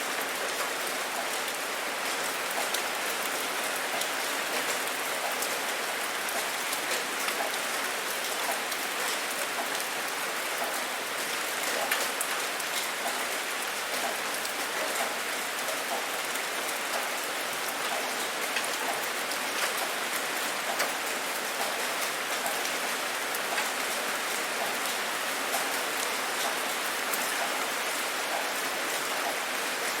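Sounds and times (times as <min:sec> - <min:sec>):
rain pattering: 0:00.0 - 0:30.0.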